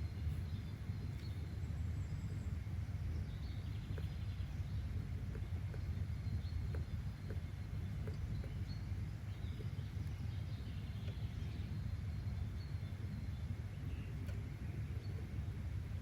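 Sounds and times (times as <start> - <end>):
faint bird chirps: 0.0 - 15.8.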